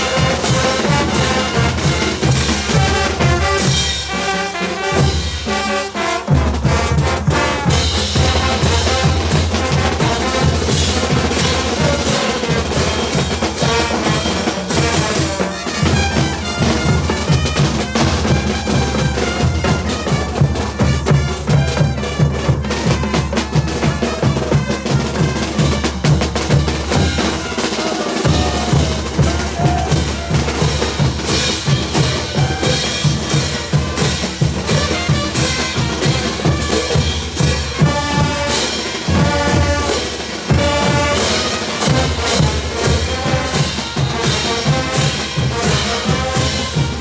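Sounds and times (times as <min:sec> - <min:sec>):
bass drum and snare beat: 0:00.0 - 0:05.7, 0:06.3 - 0:47.0
band playing: 0:00.0 - 0:47.0.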